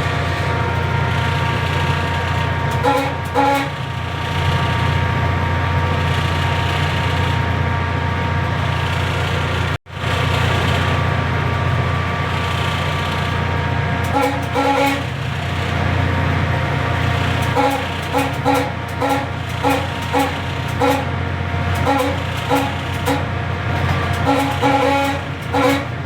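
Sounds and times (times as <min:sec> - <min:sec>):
constant whine: 0:00.0 - 0:26.0
diesel engine drone: 0:00.0 - 0:26.0.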